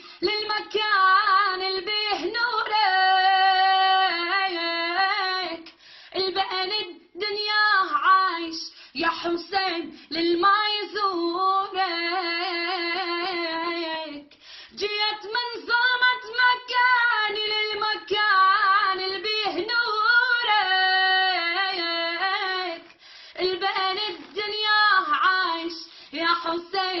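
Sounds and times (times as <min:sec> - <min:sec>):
girl singing a religious chant: 0:00.0 - 0:27.0.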